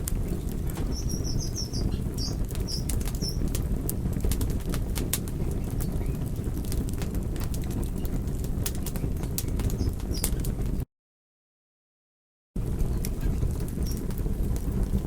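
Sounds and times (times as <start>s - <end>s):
log fire crackling: 0.0s - 10.8s, 12.6s - 15.0s.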